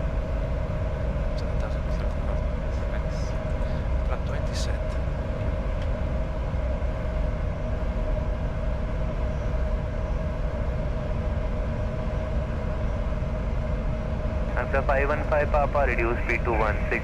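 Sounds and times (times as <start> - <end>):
jet flight-deck rumble and hum: 0.0 - 17.0.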